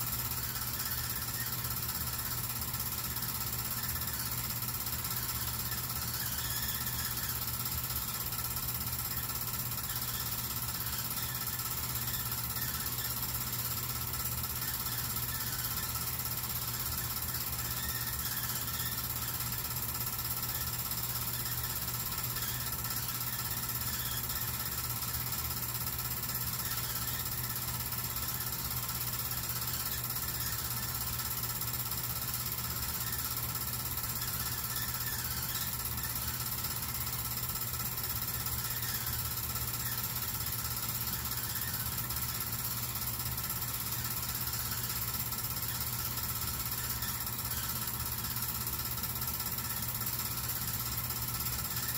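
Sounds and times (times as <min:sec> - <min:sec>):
film projector mechanical clatter: 0:00.0 - 0:51.9
projector motor hum: 0:00.0 - 0:51.9.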